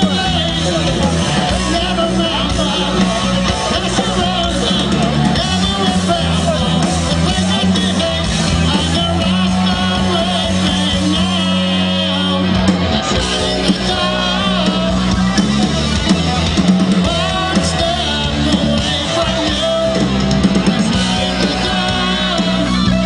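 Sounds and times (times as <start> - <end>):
rock band playing loud: 0.0 - 23.0
wavering guitar or vocal lines: 0.0 - 23.0.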